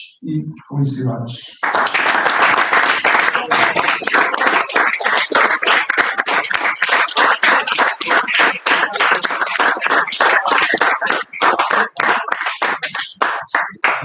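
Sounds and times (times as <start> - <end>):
audience applauding: 1.5 - 14.0.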